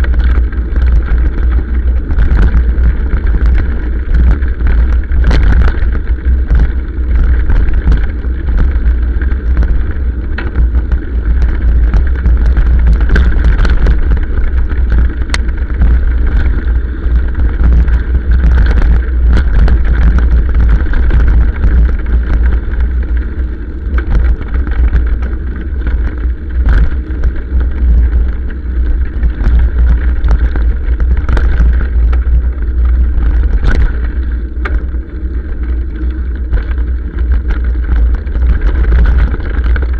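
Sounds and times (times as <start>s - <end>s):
motorcycle engine rumbling: 0.0s - 39.9s
motorcycle knocks and rattles: 0.0s - 39.9s.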